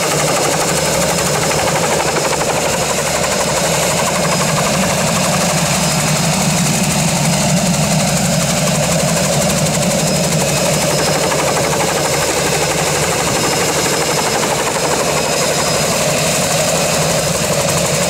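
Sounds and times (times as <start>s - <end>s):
helicopter rotor blade chop: 0.0s - 18.0s
turbine engine running: 0.0s - 18.0s.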